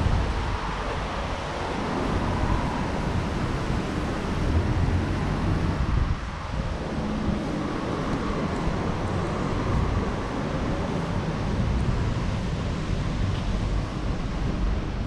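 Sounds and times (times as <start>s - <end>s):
distant street traffic: 0.0s - 15.0s
wind buffeting microphone: 0.0s - 15.0s.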